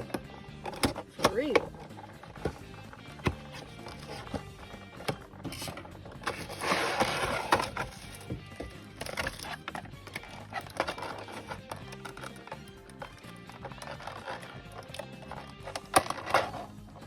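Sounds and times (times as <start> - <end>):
background music: 0.0 - 17.0
clicks and knocks of handling: 0.0 - 17.0.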